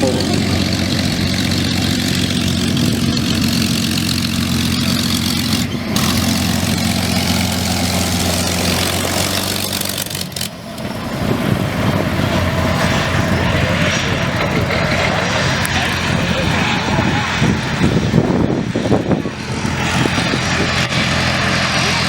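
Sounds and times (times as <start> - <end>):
aircraft engine idling: 0.0 - 22.0.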